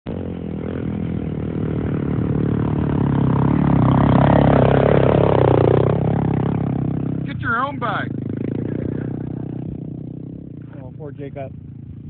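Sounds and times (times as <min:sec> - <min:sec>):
dirt bike engine under throttle: 0:00.1 - 0:12.0.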